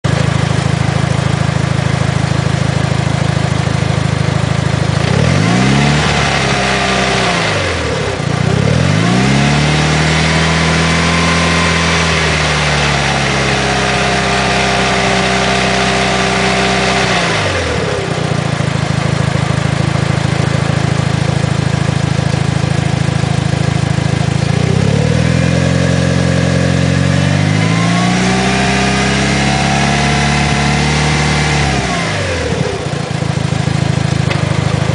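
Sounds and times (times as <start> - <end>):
car engine idling and revving: 0.0 - 34.9
engine rattle: 0.0 - 34.9.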